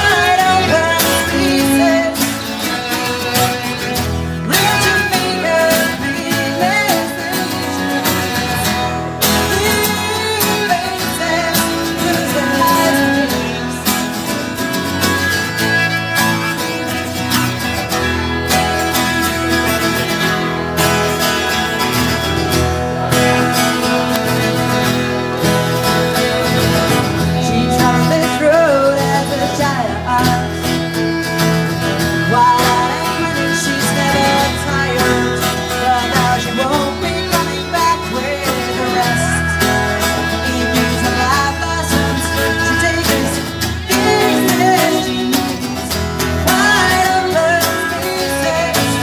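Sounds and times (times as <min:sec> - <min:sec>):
person singing: 0:00.0 - 0:15.6, 0:22.8 - 0:49.0
live band music with guitar: 0:00.0 - 0:49.0.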